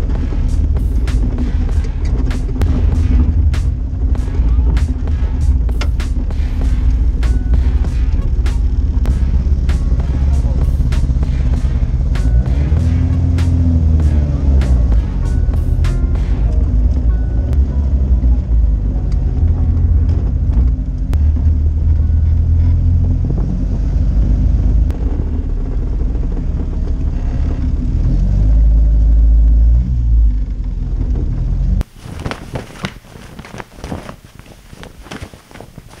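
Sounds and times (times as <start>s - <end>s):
car engine running at low revs: 0.0s - 36.0s.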